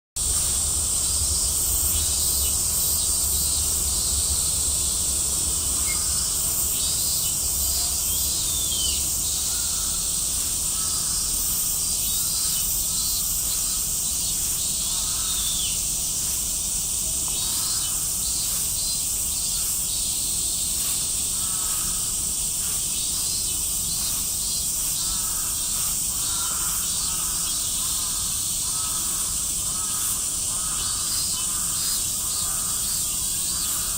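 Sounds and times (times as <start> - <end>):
cicadas droning: 0.2 - 33.9.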